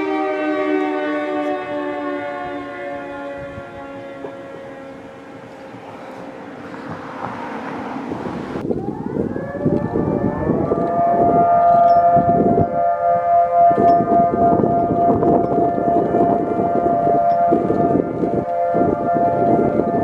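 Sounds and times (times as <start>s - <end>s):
tornado warning siren wailing: 0.0s - 20.0s.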